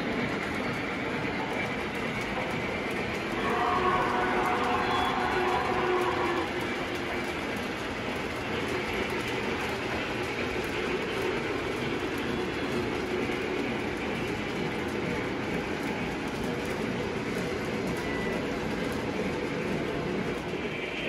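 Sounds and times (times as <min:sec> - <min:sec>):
train rolling on track: 0:00.0 - 0:21.0.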